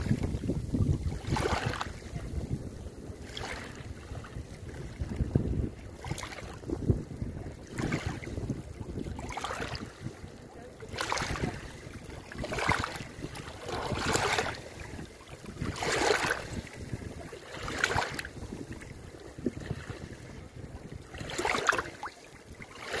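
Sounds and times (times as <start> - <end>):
small waves lapping on shore: 0.0 - 23.0.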